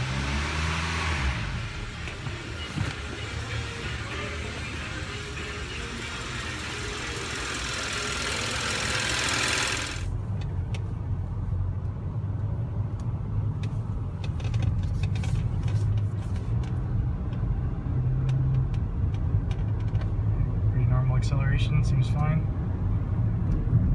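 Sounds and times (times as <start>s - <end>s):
engine and road noise: 0.0s - 23.9s.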